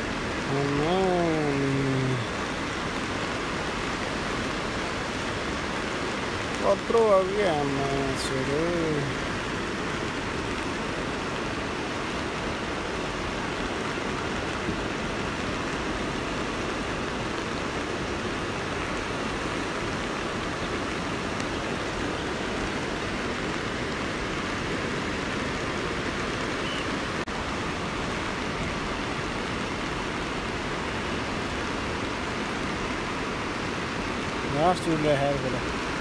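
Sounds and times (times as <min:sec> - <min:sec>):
river rushing: 0:00.0 - 0:36.0.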